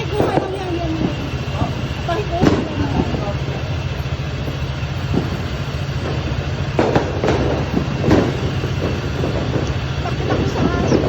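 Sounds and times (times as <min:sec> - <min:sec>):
sharp firecracker cracks: 0:00.0 - 0:03.9, 0:04.6 - 0:11.0
firecrackers rumbling: 0:00.0 - 0:11.0.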